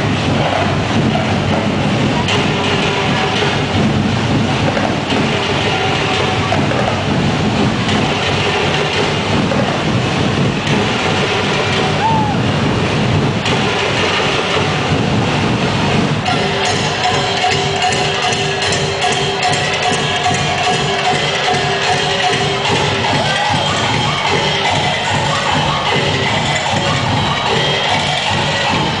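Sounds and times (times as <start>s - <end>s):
drum ensemble playing: 0.0s - 29.0s
large crowd noise: 0.0s - 29.0s.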